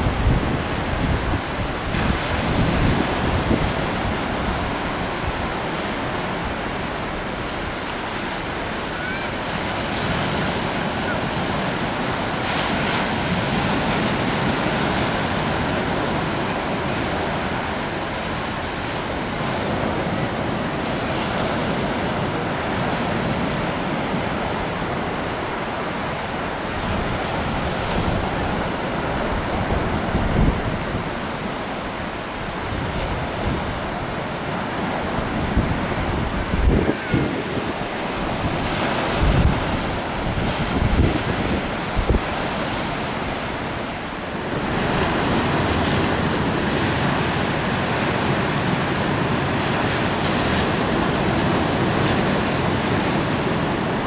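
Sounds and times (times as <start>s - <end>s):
choppy river water: 0.0s - 54.0s
wind on microphone: 0.0s - 54.0s.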